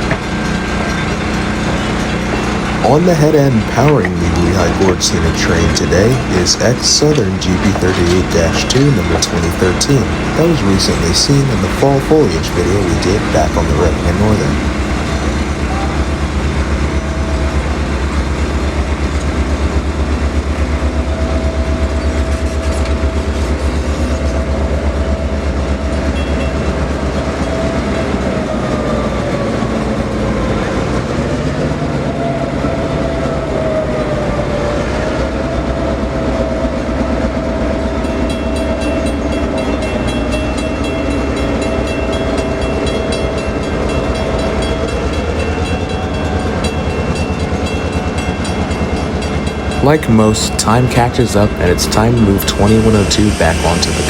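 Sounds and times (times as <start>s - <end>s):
diesel locomotive rumbling: 0.0s - 54.0s
locomotive bell ringing: 0.0s - 54.0s
wheels squealing: 0.0s - 54.0s.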